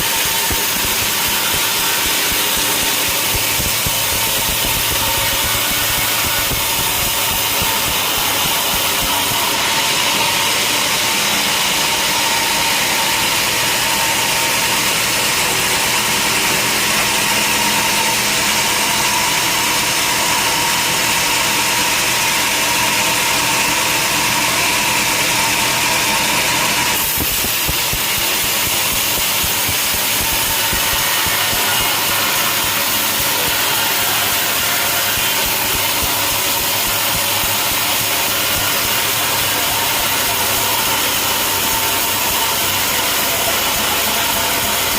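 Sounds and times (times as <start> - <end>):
sawmill machinery drone: 0.0 - 44.9.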